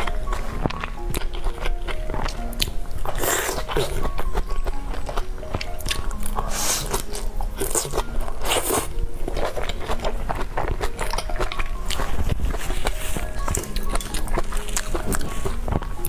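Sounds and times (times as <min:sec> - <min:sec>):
crunchy biting and chewing: 0:00.0 - 0:16.0.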